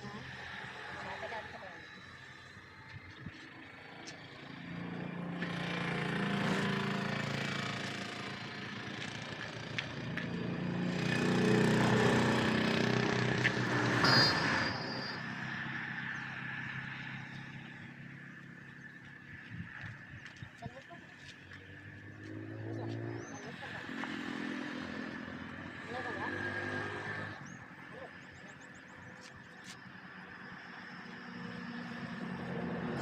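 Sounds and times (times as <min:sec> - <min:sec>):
vehicle engines passing by: 0:00.0 - 0:33.0.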